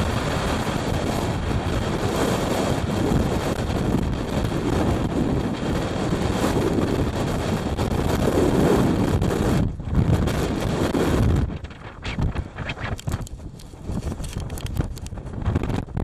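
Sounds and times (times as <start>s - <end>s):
strong wind against microphone: 0.0s - 16.0s.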